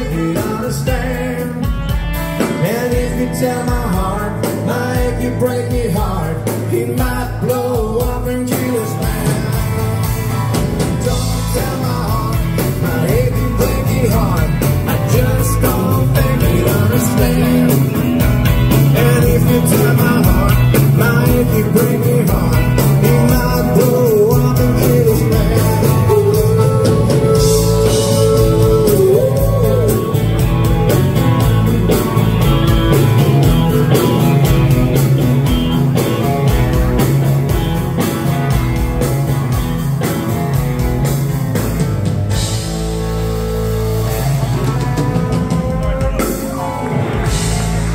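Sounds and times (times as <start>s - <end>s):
live country-rock band playing: 0.0s - 47.9s
bending melodic lead: 9.0s - 47.9s.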